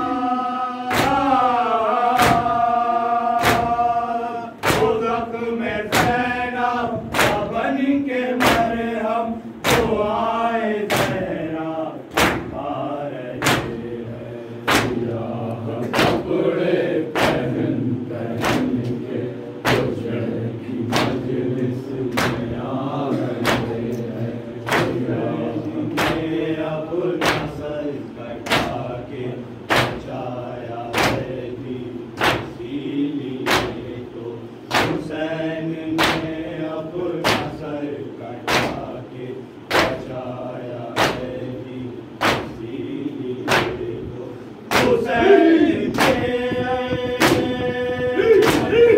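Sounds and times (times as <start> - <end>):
men chanting together: 0.0 - 48.9
unison chest-beating: 0.8 - 39.0, 39.6 - 48.9.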